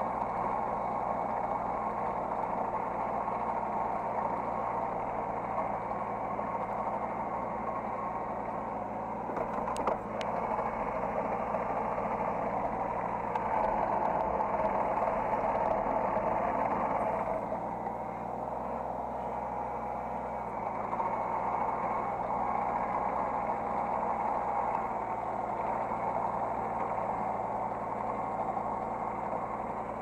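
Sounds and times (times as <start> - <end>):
diesel excavator engine running: 0.0 - 30.0.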